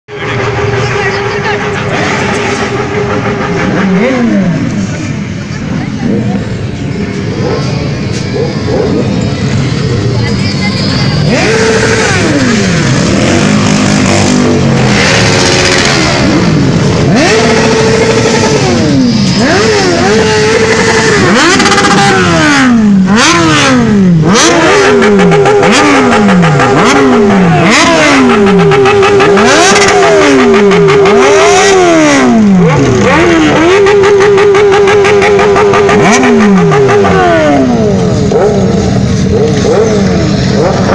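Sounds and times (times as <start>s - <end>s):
motorcycle engine revving: 0.1s - 40.9s.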